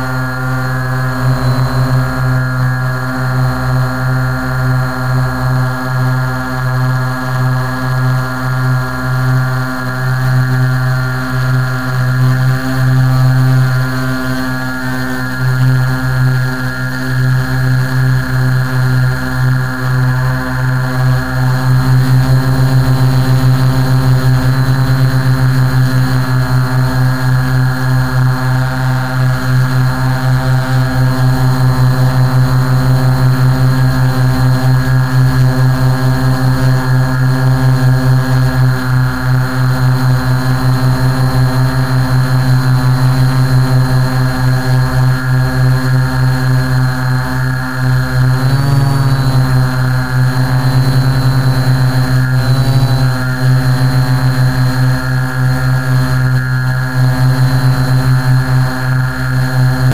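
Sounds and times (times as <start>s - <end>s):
drone propellers humming: 0.0s - 59.9s.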